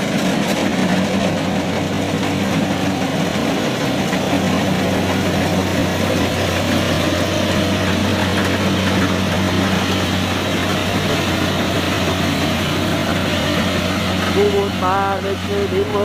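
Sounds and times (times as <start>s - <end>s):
combine harvester engine hum: 0.0s - 16.0s
cutting and threshing machinery: 0.0s - 16.0s.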